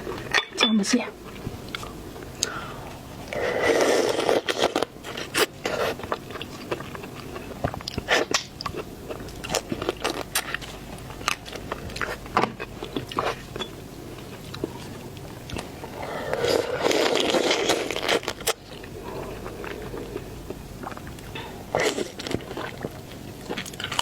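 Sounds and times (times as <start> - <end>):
chewing: 1.3 - 24.0
crab shell crunching: 3.2 - 24.0.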